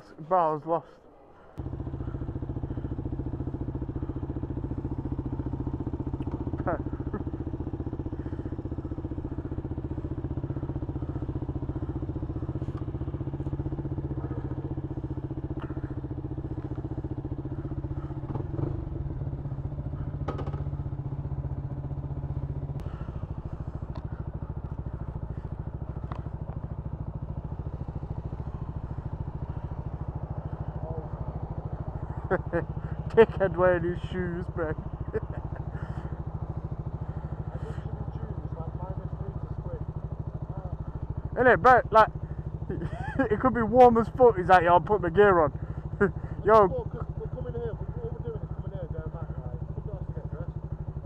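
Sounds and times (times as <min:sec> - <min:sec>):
motorcycle engine running: 0:01.4 - 0:51.0.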